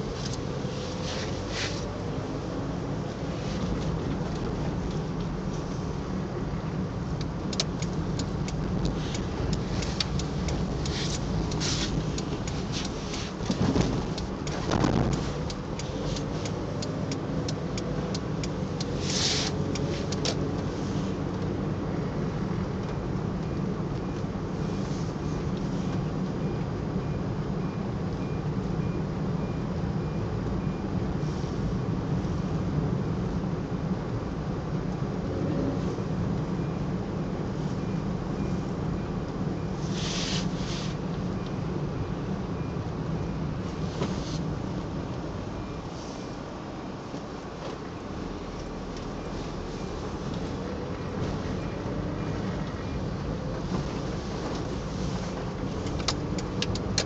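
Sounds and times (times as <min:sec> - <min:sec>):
car interior road and engine noise: 0:00.0 - 0:57.0.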